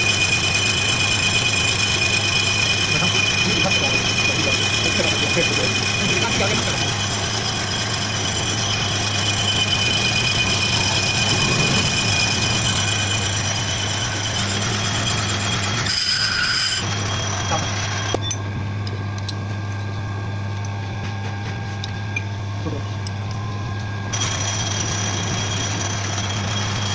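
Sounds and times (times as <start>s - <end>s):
lathe motor hum: 0.0s - 26.9s.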